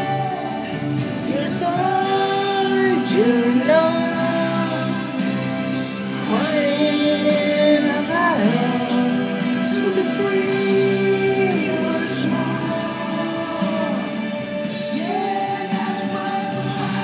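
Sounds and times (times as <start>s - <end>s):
sustained instrumental accompaniment: 0.0s - 17.0s.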